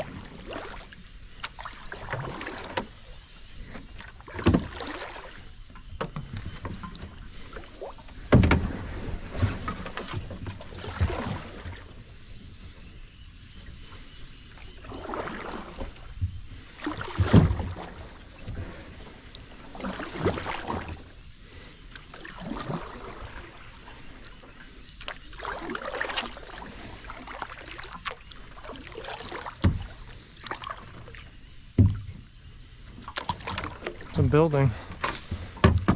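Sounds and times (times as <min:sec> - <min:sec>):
paddle strokes swishing through water: 0:00.0 - 0:35.9.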